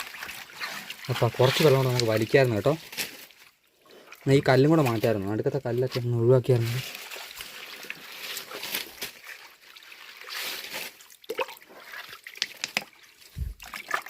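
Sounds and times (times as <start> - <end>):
small splashes: 0.0 - 5.2, 6.6 - 14.0
shallow water trickling: 0.0 - 14.0.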